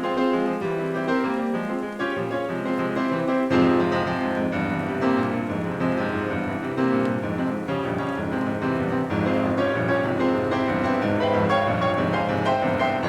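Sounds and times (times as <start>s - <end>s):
chamber music with piano: 0.0s - 13.0s.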